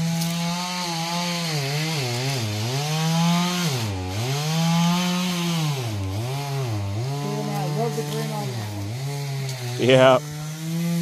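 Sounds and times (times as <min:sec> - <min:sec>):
chainsaw running at high revs: 0:00.0 - 0:11.0.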